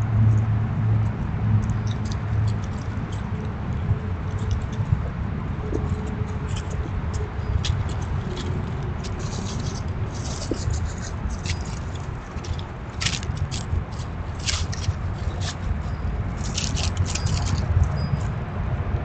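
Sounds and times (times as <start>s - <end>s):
steady low rumble: 0.0s - 19.0s
squirrels scrabbling in dry leaves: 0.2s - 18.4s.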